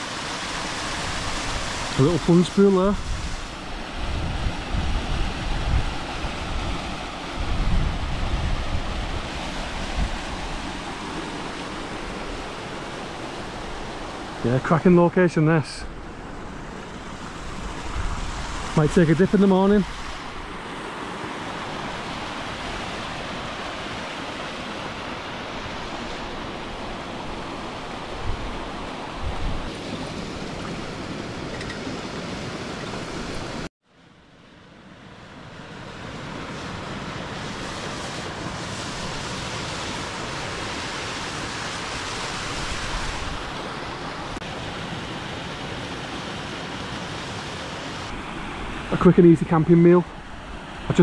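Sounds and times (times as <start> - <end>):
stream and waterfall over rocks: 0.0 - 51.0.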